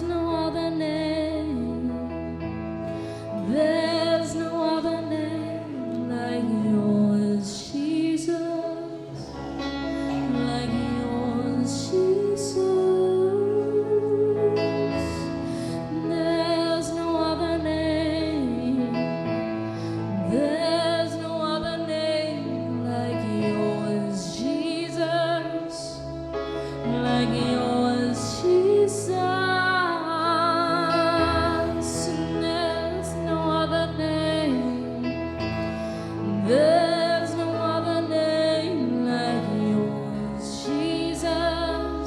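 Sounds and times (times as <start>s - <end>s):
sustained instrumental chords: 0.0s - 42.0s
woman singing long wavering notes: 3.3s - 19.4s, 20.1s - 35.4s, 36.2s - 42.0s.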